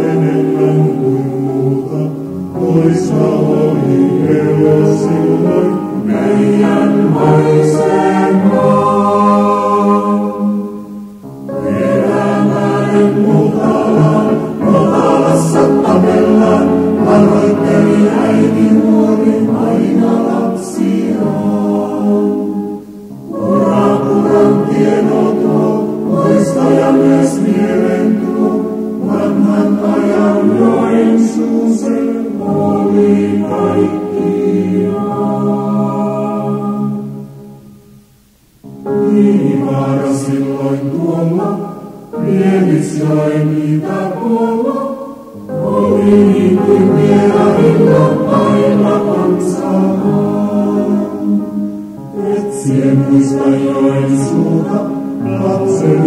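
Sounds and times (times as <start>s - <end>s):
person singing: 0.0s - 37.3s, 38.9s - 56.0s.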